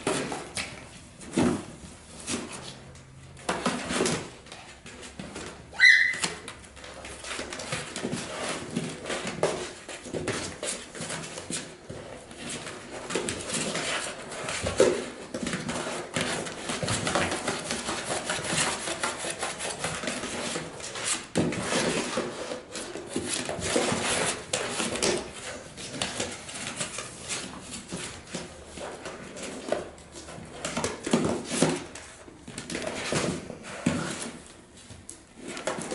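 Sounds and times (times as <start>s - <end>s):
puppies scratching cardboard box: 0.0s - 35.9s.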